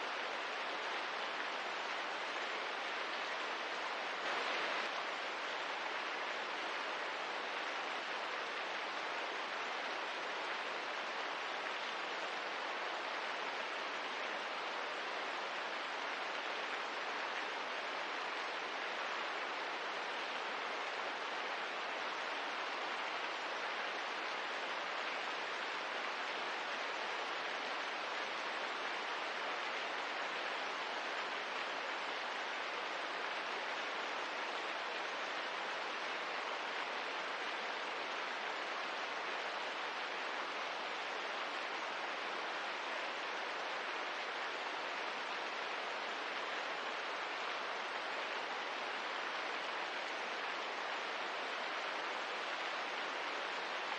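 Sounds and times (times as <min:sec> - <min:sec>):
soft rain hiss: 0:00.0 - 0:53.9.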